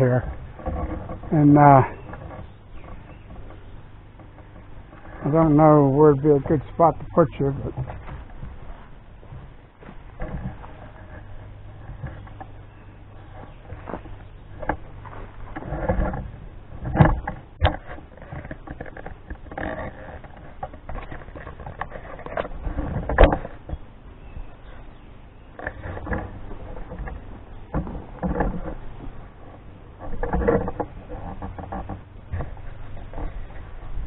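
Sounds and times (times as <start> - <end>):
loader engine straining under load: 0.0 - 34.0.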